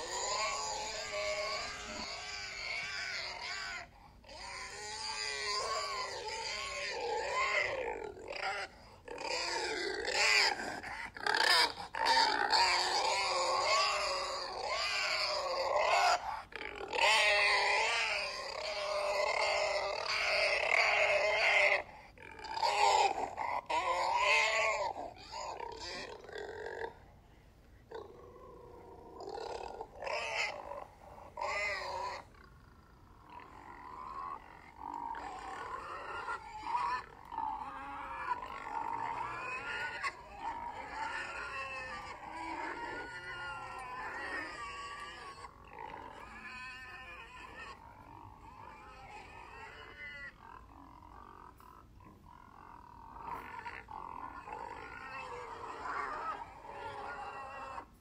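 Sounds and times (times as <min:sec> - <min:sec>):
pigs grunting and squealing: 0:00.0 - 0:27.1, 0:27.8 - 0:58.0.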